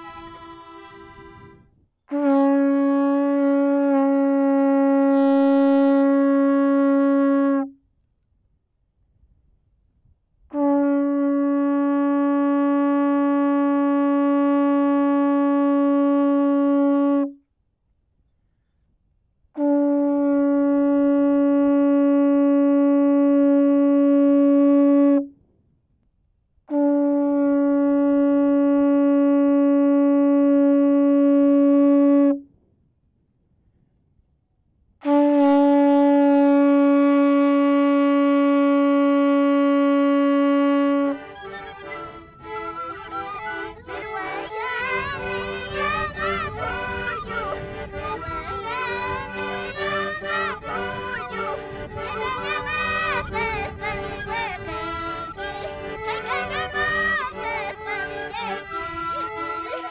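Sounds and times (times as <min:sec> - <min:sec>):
horn long blasts: 0:00.0 - 0:07.9, 0:10.5 - 0:17.5, 0:19.5 - 0:25.4, 0:26.7 - 0:32.6, 0:35.0 - 0:59.9.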